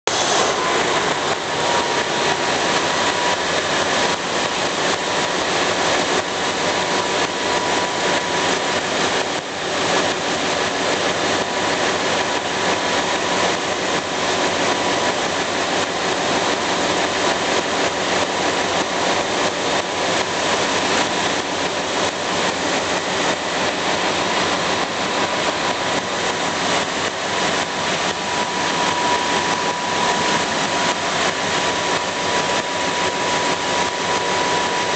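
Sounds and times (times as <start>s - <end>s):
engine running: 0.1s - 34.9s
thin steady whine: 0.1s - 34.9s.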